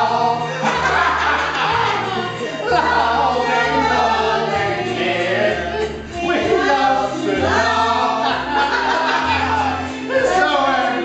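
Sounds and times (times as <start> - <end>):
musical accompaniment: 0.0 - 11.0
people laughing: 0.0 - 11.0
people singing together: 0.0 - 11.0.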